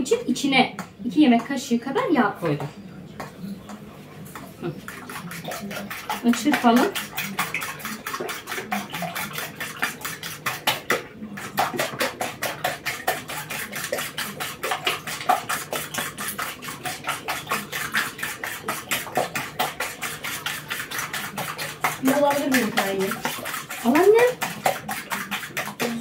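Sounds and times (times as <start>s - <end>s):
spoon beating eggs in bowl: 0.0s - 26.0s.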